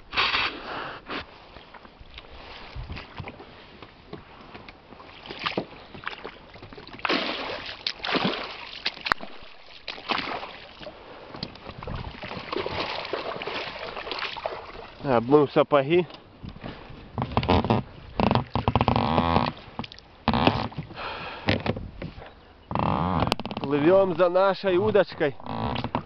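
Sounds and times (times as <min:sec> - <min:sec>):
water splashing against boat: 0:00.0 - 0:26.0.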